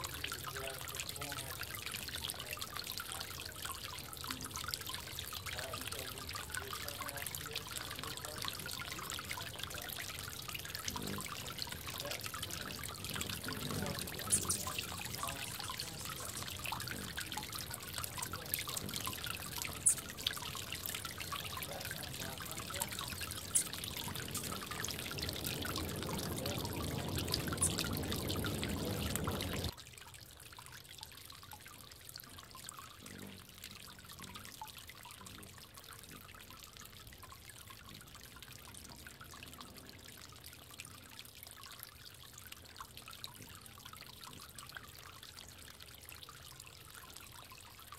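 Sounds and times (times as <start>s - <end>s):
water trickling in bird bath: 0.0s - 47.9s.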